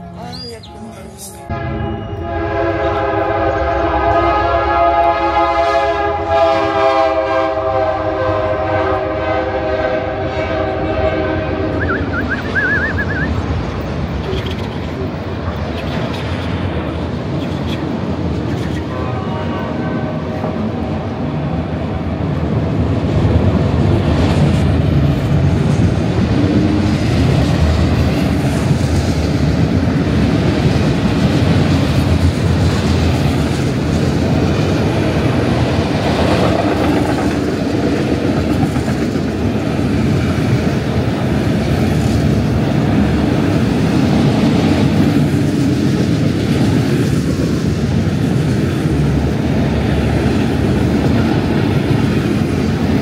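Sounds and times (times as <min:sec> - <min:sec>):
train running on rails: 0:00.0 - 0:53.0.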